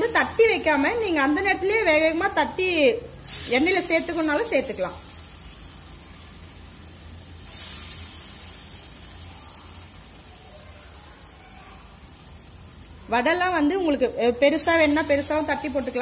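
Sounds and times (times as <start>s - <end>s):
food deep-frying in hot oil: 0.0s - 16.0s.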